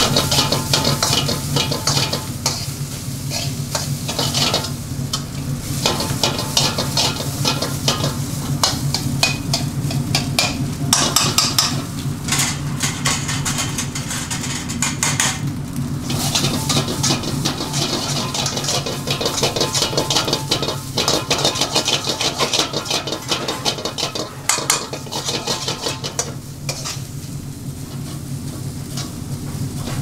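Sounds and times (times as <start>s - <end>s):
metal spatula scraping pan: 0.0s - 15.4s, 16.0s - 27.2s
food sizzling: 0.0s - 30.0s.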